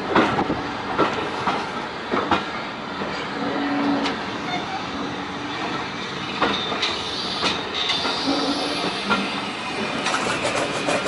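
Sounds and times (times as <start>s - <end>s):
train carriages rumbling: 0.0s - 11.0s.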